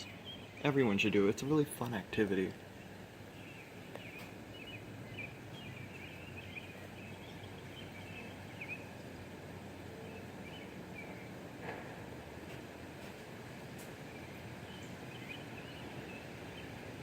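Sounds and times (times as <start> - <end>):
birds chirping: 0.0 - 11.6, 12.6 - 17.0
outdoor background hiss: 0.0 - 17.0.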